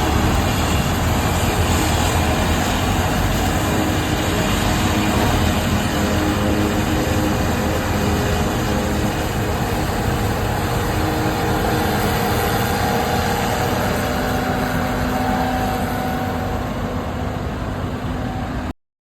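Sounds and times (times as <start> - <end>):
diesel engines running: 0.0 - 18.7.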